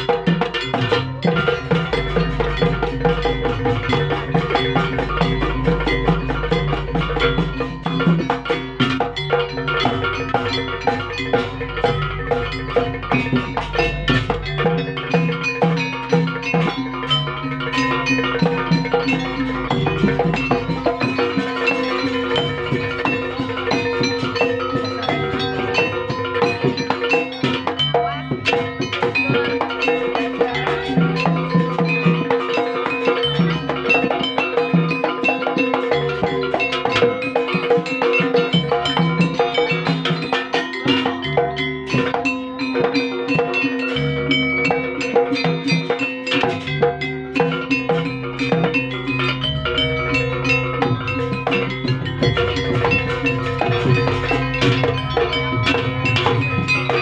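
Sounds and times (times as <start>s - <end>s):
drum strokes: 0.0s - 57.0s
gong-like tones: 0.0s - 57.0s
metal-keyed percussion ringing: 0.0s - 57.0s.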